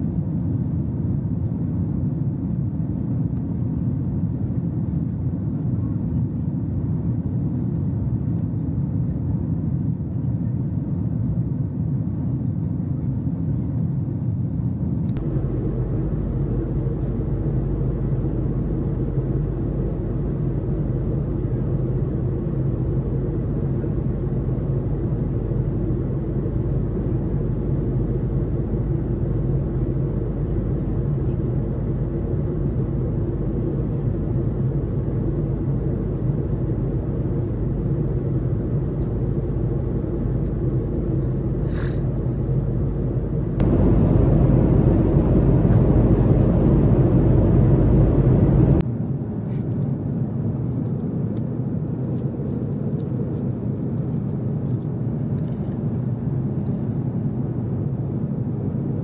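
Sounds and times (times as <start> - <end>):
low engine-like rumble: 0.0 - 59.0.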